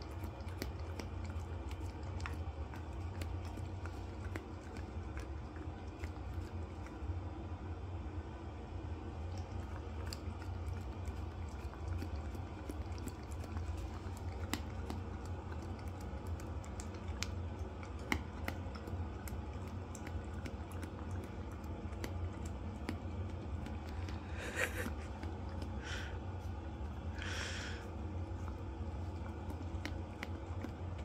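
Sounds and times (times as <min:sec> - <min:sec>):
dog licking and chewing: 0:00.0 - 0:07.4, 0:09.1 - 0:31.0
steady low hum: 0:00.0 - 0:31.0.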